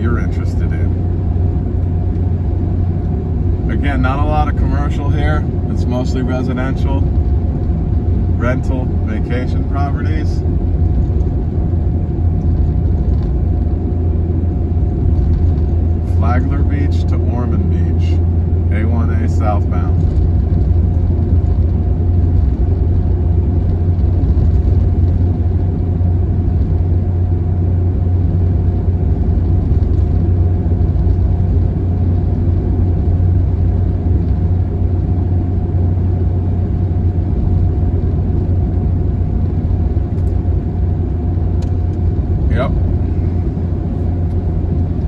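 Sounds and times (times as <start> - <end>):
faint steady whine: 0.0 - 45.0
van engine and road rumble: 0.0 - 45.0.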